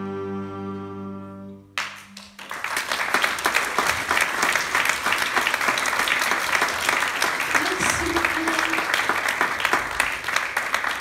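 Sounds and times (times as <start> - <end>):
audience applause: 1.8 - 11.0.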